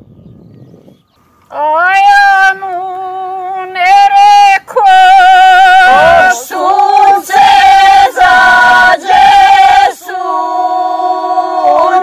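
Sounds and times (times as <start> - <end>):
women singing unaccompanied: 1.5 - 12.0.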